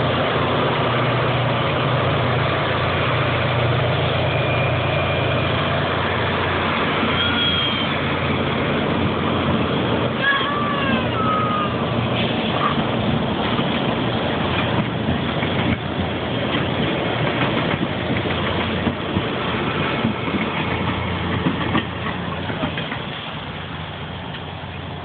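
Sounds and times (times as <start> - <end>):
rail grinder engine drone: 0.0 - 25.0.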